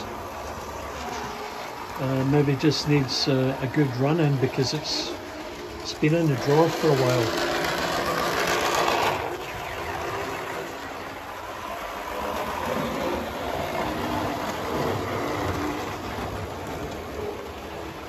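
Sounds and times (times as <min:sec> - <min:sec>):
model train motor whir: 0:00.0 - 0:18.0
model train wheel noise: 0:00.0 - 0:18.0.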